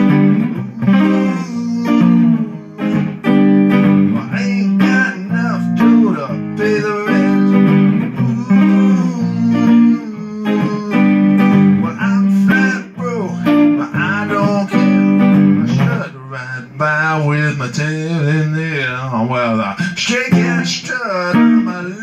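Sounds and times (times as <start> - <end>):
electric guitar riff: 0.0 - 22.0.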